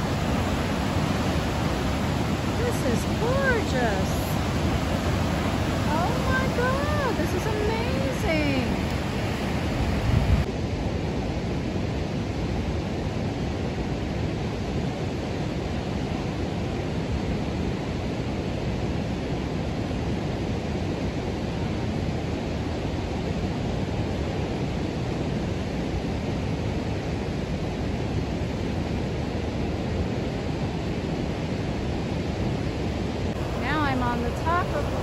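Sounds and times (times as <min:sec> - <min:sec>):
waterfall and river rapids rushing: 0:00.0 - 0:35.0.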